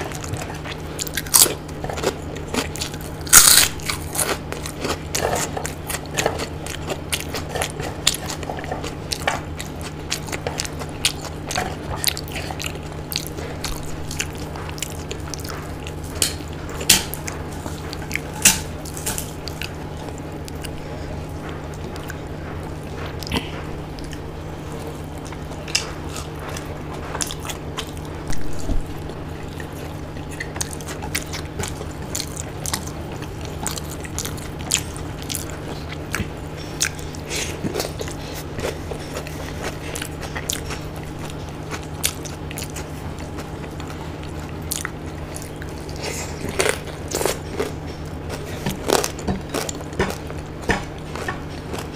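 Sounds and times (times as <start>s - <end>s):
low hum: 0.0s - 42.0s
chewing and mouth clicks: 0.0s - 51.9s
fingers mixing soft food: 0.0s - 51.9s.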